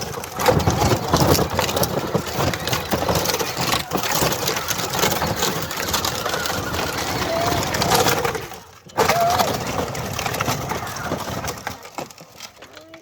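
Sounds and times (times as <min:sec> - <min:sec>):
plastic wheels crunching on gravel: 0:00.0 - 0:13.0.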